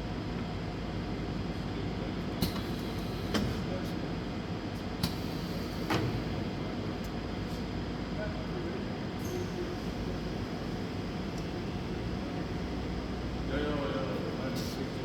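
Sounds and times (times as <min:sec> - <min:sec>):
workshop machinery humming: 0:01.7 - 0:15.0.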